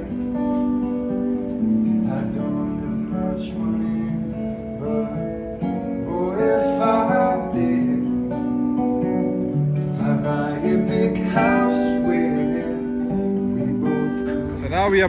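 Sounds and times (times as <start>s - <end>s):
guitar playing chords: 0.0s - 15.0s.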